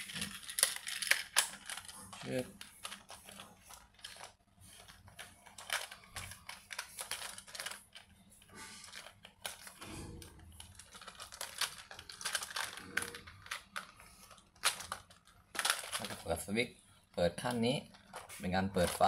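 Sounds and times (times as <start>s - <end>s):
plastic toy parts clicking: 0.0s - 16.3s.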